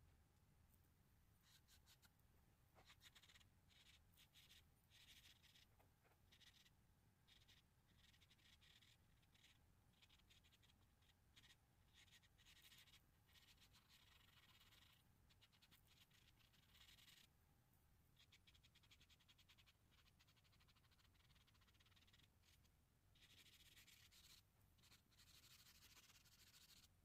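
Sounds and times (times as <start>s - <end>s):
charcoal scratching on paper: 1.4s - 2.1s, 2.8s - 6.7s, 7.3s - 17.3s, 18.2s - 27.0s.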